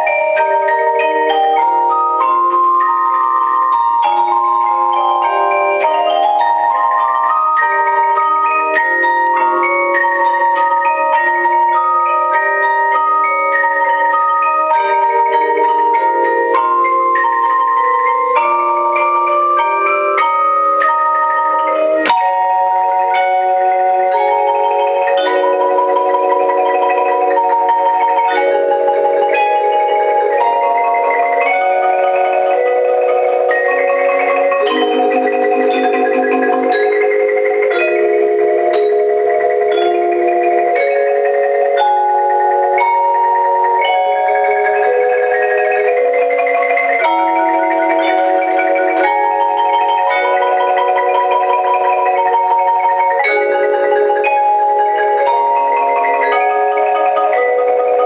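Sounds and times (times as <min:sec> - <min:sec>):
tuned mallet percussion music: 0:00.0 - 0:58.0.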